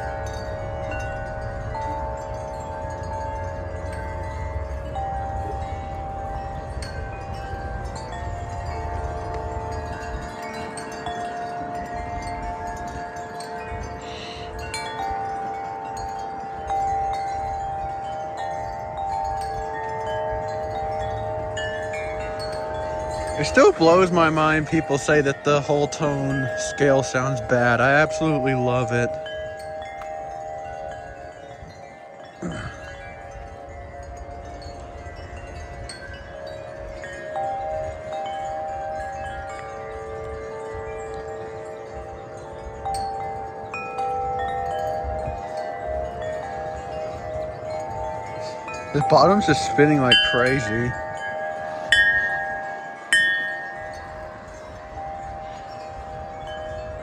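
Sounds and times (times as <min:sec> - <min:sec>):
low rumble of wind: 0:00.0 - 0:57.0
wind chimes ringing: 0:00.0 - 0:57.0.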